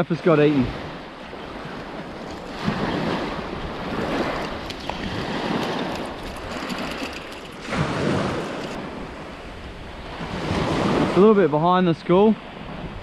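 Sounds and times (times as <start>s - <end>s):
small waves breaking on beach: 0.0s - 13.0s
wind on microphone: 0.6s - 11.3s, 12.4s - 13.0s.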